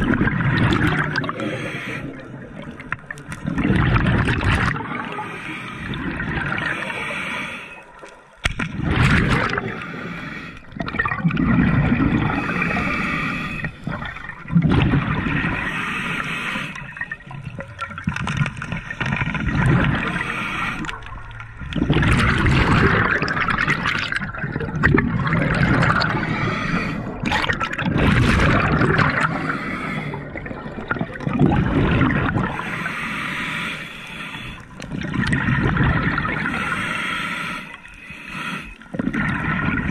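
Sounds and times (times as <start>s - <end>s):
water gurgling underwater: 0.0s - 5.2s, 5.8s - 6.9s, 8.0s - 10.0s, 10.6s - 15.8s, 16.8s - 32.8s, 34.6s - 36.8s, 38.8s - 39.9s.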